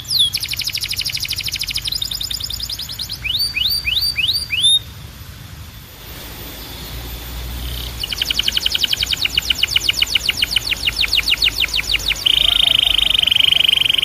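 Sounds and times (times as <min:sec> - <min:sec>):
canary singing: 0:00.0 - 0:05.0, 0:06.0 - 0:14.0.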